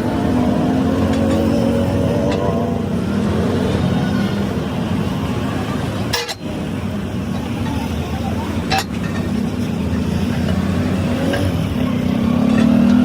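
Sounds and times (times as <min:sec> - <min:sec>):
road traffic: 0:00.0 - 0:13.0
vehicle engine running: 0:00.0 - 0:13.0.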